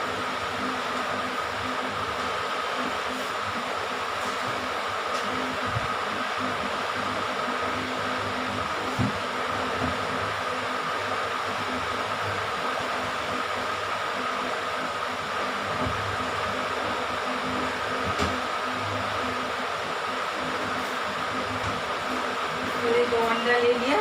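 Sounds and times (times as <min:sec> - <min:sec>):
fan whirring hiss: 0:00.0 - 0:24.0.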